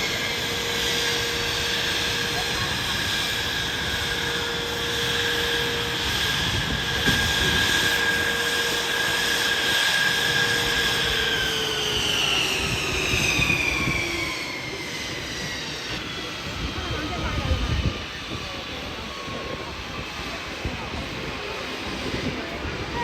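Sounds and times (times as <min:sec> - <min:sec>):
jet aircraft flying past: 0:00.0 - 0:23.0.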